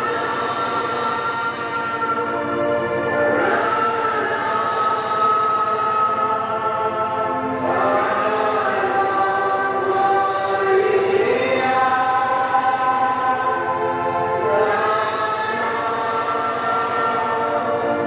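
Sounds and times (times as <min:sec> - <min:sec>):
voices singing a hymn: 0:00.0 - 0:18.0.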